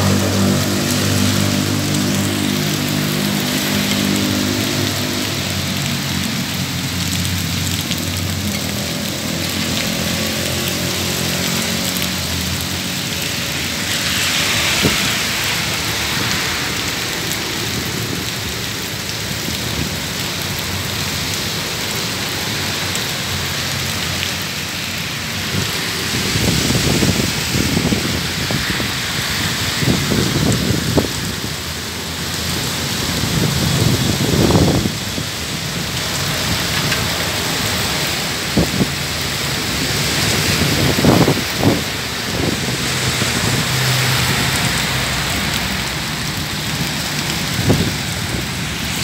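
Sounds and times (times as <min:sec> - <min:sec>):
heavy rain on road: 0:00.0 - 0:49.0
traffic engine hum: 0:00.0 - 0:49.0
tyres hissing on wet road: 0:00.0 - 0:49.0.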